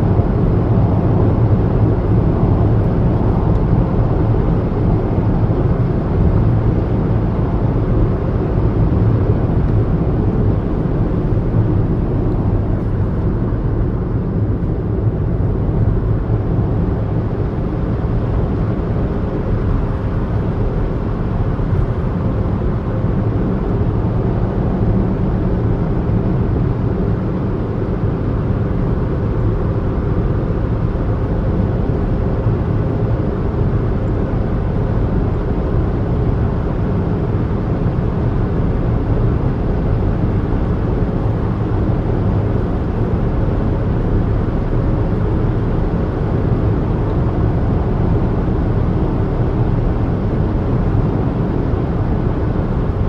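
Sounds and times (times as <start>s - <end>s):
car engine and tyre noise inside cabin: 0.0s - 53.0s.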